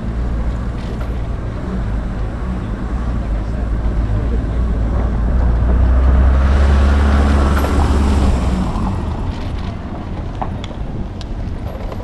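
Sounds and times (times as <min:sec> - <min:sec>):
van engine passing: 0:00.0 - 0:11.7.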